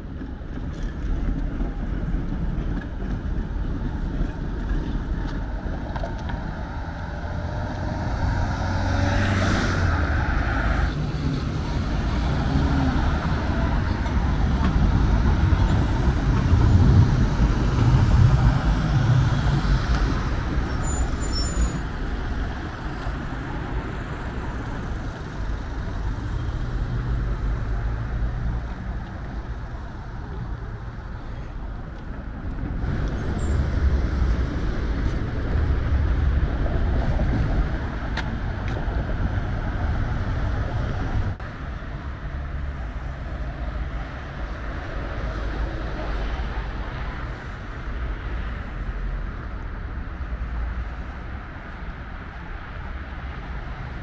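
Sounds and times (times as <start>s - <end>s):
steady traffic hum: 0.0s - 54.0s
cars driving past: 5.2s - 54.0s.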